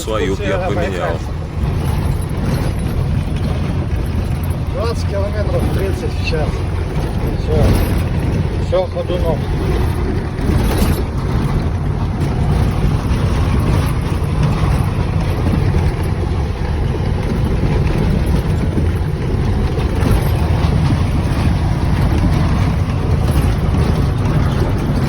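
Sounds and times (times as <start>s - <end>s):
cab shaking and rattling: 0.0s - 25.0s
vehicle rumbling on washboard road: 0.0s - 25.0s.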